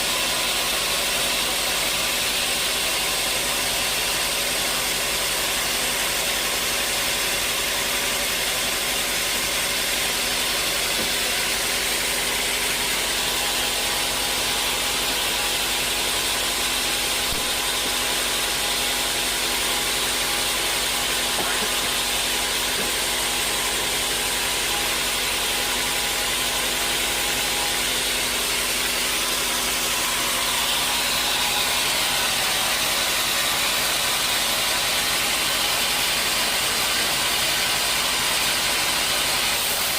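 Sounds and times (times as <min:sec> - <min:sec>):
saw cutting log: 0:00.0 - 0:39.9
sawmill machine hum: 0:00.0 - 0:39.9.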